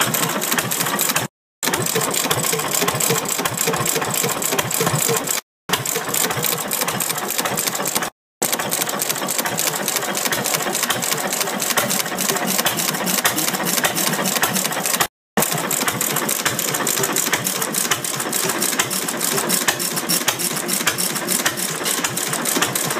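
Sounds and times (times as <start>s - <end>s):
stationary engine clattering: 0.0s - 22.9s.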